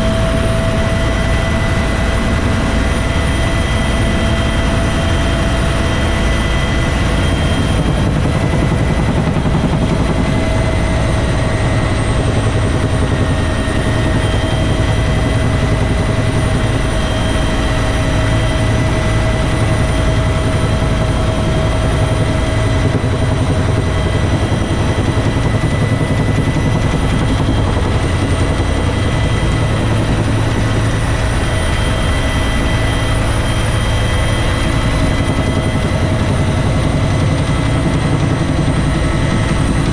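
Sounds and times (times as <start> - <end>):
helicopter rotor beat: 0.0 - 39.9
turbine whine: 0.0 - 39.9.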